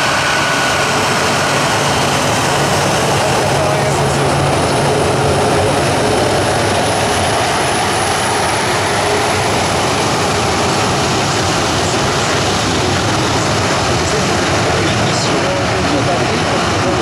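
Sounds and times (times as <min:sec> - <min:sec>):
high engine whine: 0:00.0 - 0:17.0
jet engines roaring: 0:00.0 - 0:17.0.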